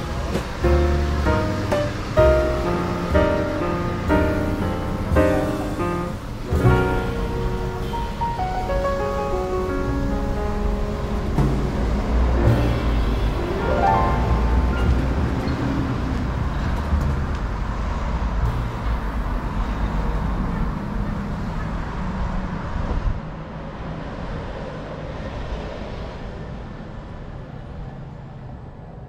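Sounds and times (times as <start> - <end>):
low rumble of traffic: 0.0 - 29.0.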